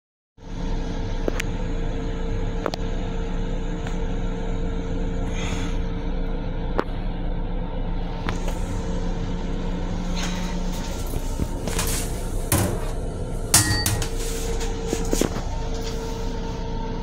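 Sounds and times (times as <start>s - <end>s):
constant low drone: 0.4s - 17.0s
higher steady hum: 0.4s - 17.0s
train rumble from inside: 0.4s - 17.0s.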